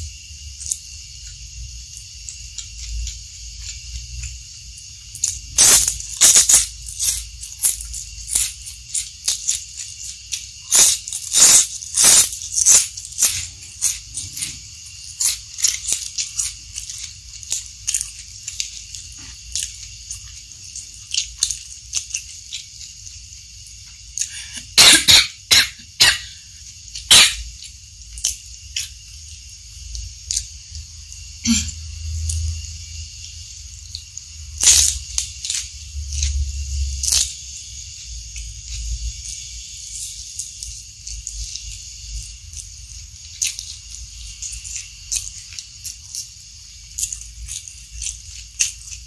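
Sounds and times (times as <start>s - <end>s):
crunchy chewing: 0.0s - 49.0s.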